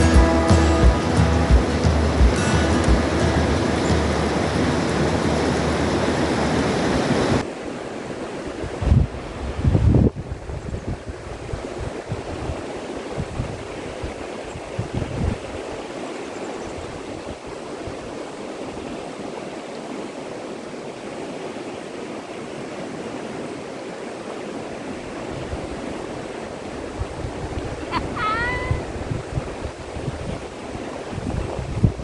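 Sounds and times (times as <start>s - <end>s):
wind buffeting microphone: 0.0s - 7.5s, 8.2s - 19.2s, 24.5s - 32.0s
river water rushing over rocks: 0.0s - 9.6s, 10.4s - 32.0s.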